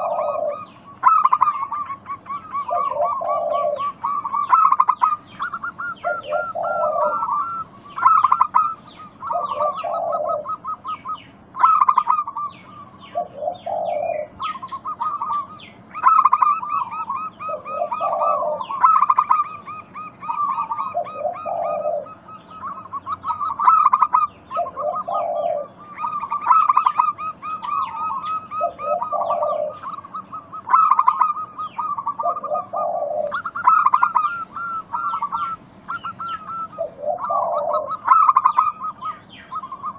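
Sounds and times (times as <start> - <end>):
birds twittering: 0.0 - 39.9
doves cooing: 0.0 - 39.9.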